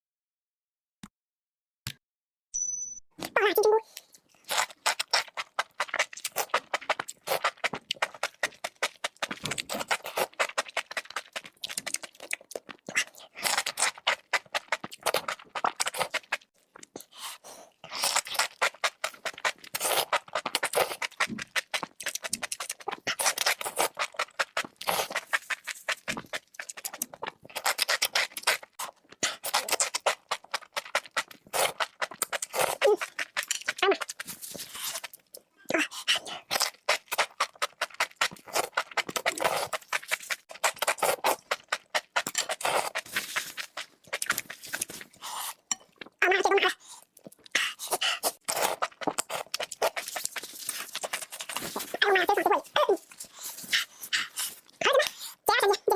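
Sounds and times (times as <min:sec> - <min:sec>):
wet crackling chewing: 0:03.8 - 0:55.9.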